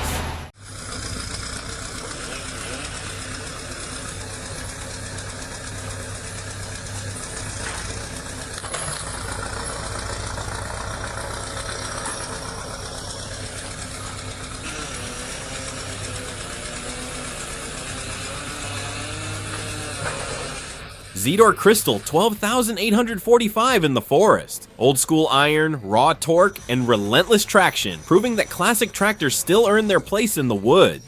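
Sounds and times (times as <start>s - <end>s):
heavy diesel machinery running: 0.0s - 31.0s.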